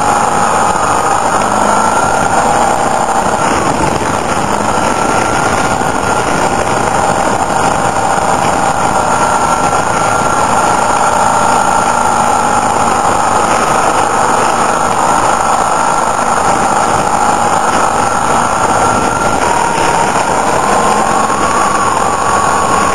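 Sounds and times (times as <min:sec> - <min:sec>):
motorcycle engine running: 0:00.0 - 0:22.9
wind noise: 0:00.0 - 0:22.9.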